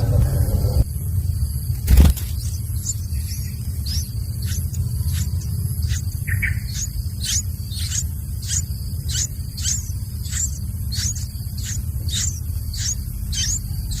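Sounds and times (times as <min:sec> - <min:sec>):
low rumble: 0:00.0 - 0:14.0
bird chick chirping: 0:01.9 - 0:14.0.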